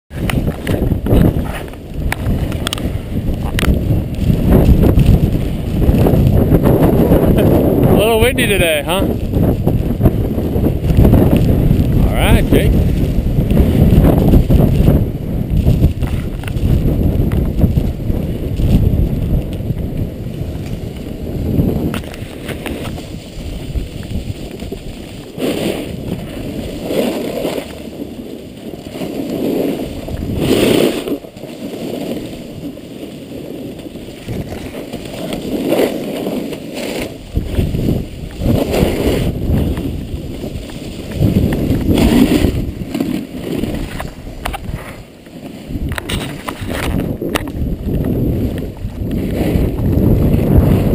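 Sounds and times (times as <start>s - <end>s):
snowboard edge scraping snow: 0.1s - 50.9s
wind buffeting microphone: 0.1s - 50.9s.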